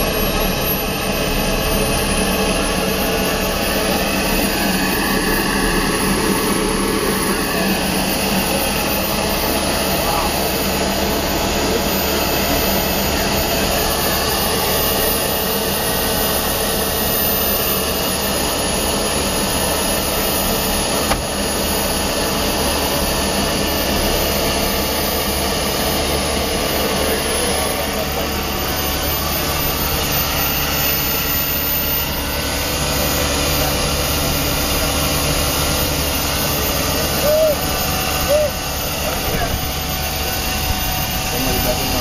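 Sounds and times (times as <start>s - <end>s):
turbine engine running: 0.0s - 42.0s.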